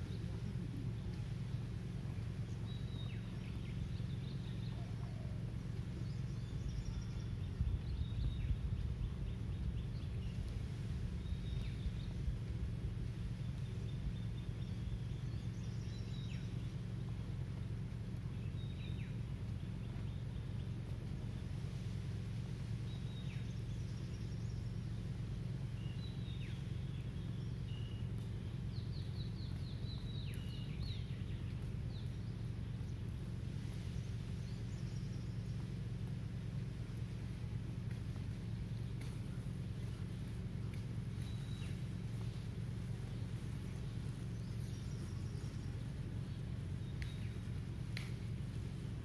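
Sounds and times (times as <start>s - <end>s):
birds chirping: 0.0s - 49.0s
low rumble: 0.0s - 49.0s.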